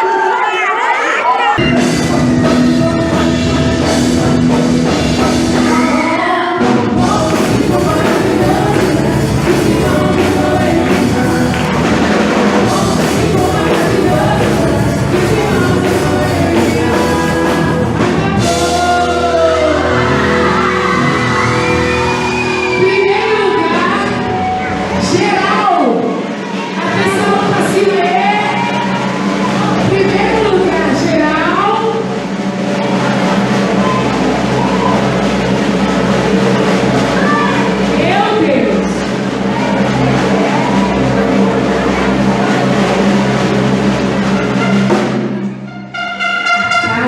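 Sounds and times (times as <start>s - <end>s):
song with full band: 0.0s - 47.0s.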